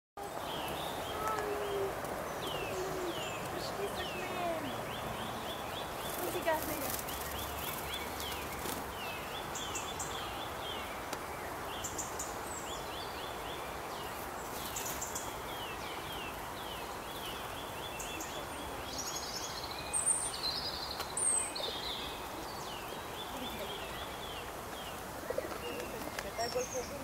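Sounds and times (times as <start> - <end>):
outdoor background hiss: 0.2 - 27.0
songbirds chirping: 0.2 - 27.0.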